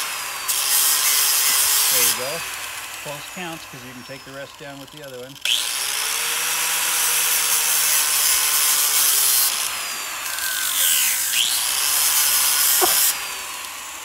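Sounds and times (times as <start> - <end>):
angle grinder grinding wood: 0.0 - 14.0
grinder motor whine: 0.0 - 14.0.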